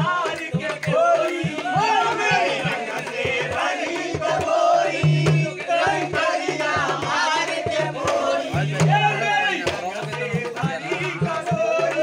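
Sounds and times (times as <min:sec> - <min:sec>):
drum beat: 0:00.0 - 0:12.0
men singing in chorus: 0:00.0 - 0:12.0.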